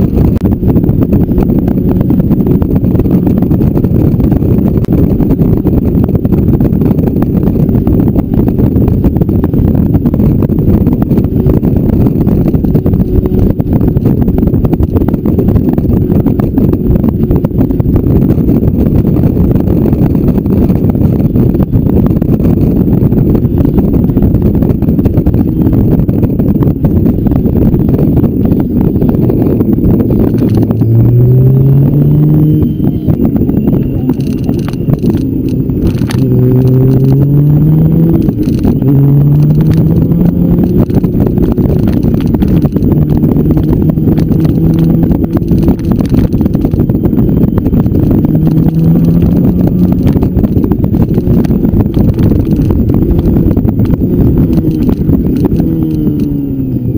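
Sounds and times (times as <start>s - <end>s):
motorcycle engine accelerating: 0.0s - 56.9s
wind rush on microphone: 0.0s - 56.9s.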